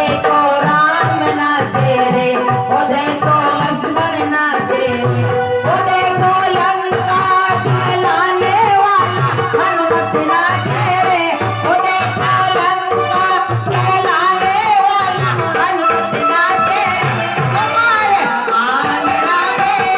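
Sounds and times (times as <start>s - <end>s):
hand percussion: 0.0s - 19.9s
person singing devotional song: 0.0s - 19.9s.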